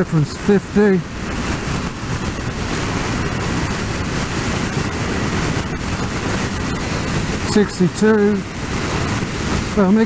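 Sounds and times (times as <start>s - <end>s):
wind rushing around helmet: 0.0s - 10.0s.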